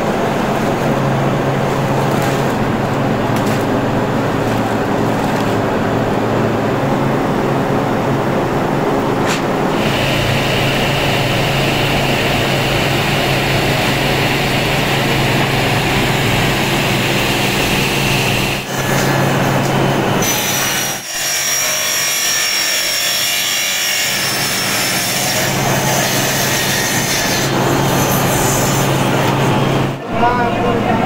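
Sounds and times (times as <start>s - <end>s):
factory machinery running: 0.0s - 31.0s.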